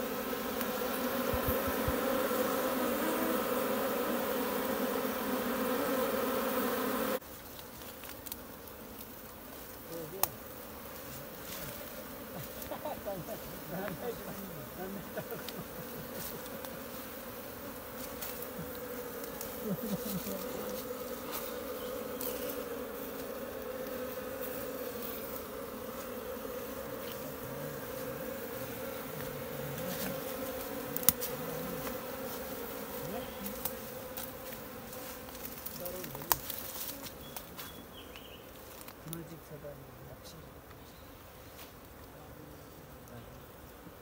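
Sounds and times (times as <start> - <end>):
honey bees humming: 0.0 - 44.0.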